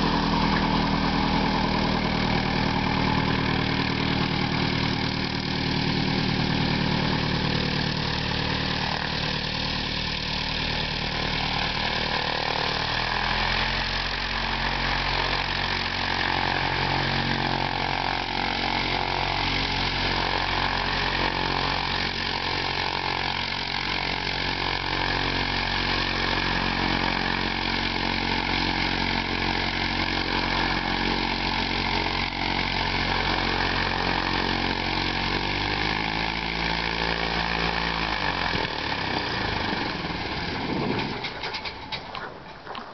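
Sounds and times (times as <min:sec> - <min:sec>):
aircraft piston engine and propeller: 0:00.0 - 0:42.2.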